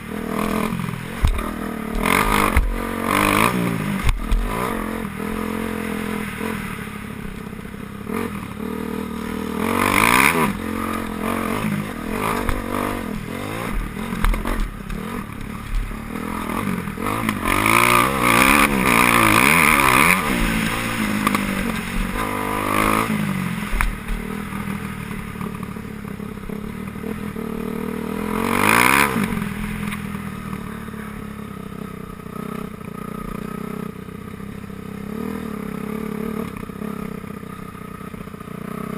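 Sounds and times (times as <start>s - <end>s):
motocross bikes revving past: 0.0s - 33.9s.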